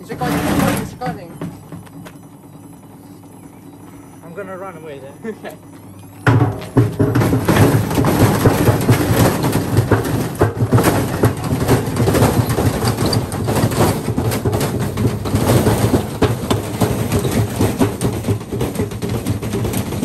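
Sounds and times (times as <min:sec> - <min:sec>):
washing machine rumbling and banging: 0:00.0 - 0:20.0.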